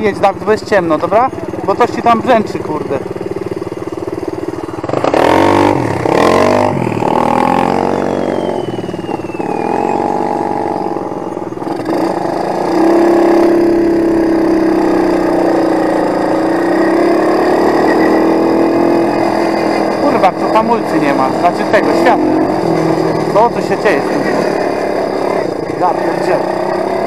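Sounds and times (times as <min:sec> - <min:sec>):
quad engine revving: 0:04.2 - 0:27.0.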